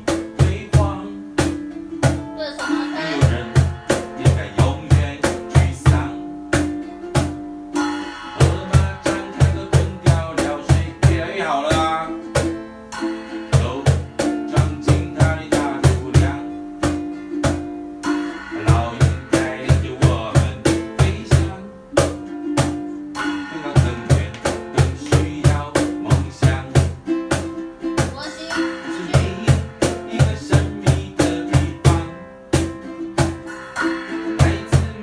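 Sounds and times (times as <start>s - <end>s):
cajon played by hand: 0.0s - 35.0s
strummed ukulele: 0.0s - 35.0s.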